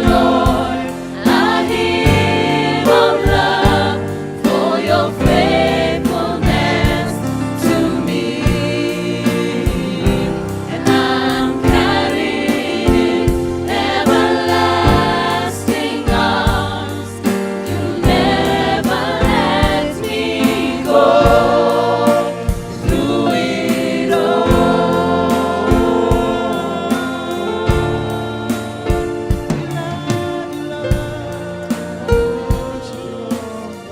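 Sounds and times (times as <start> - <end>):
band with steady drum beat: 0.0 - 33.9
choir singing gospel song: 0.0 - 33.9.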